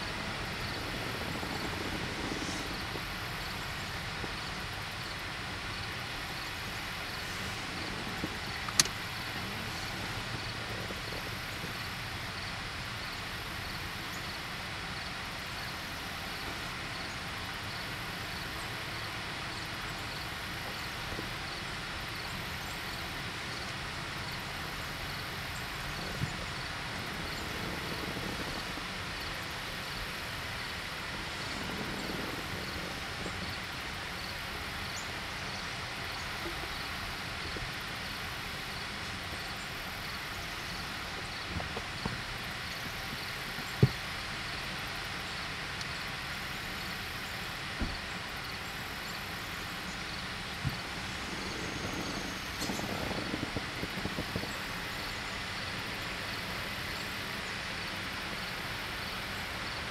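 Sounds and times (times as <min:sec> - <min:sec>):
distant traffic: 0:00.0 - 0:59.9.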